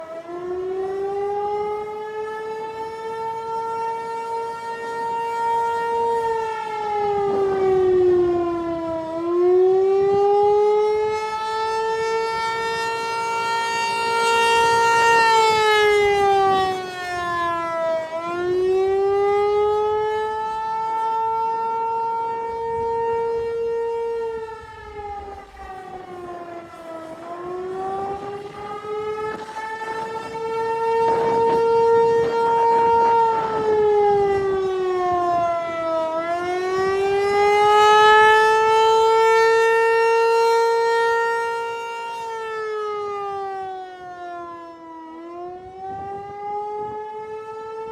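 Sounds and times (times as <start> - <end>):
warning siren wailing: 0.0 - 47.9.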